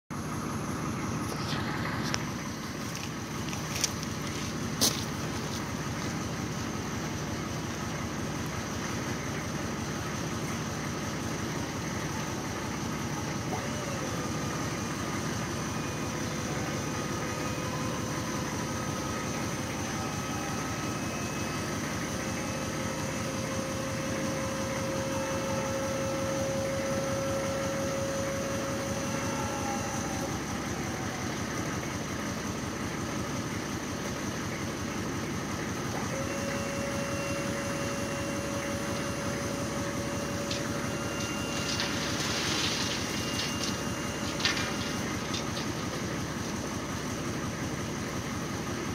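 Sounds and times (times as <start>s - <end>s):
truck engine idling: 0.1s - 48.9s
hydraulic pump whining: 0.3s - 32.8s, 34.9s - 48.9s.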